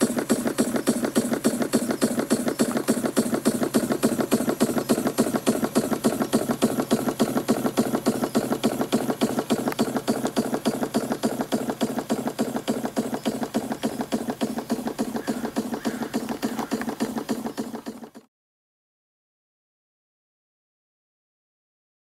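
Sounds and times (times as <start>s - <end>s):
mechanical clatter: 0.0s - 18.3s
model steam engine chuffing: 0.0s - 18.3s.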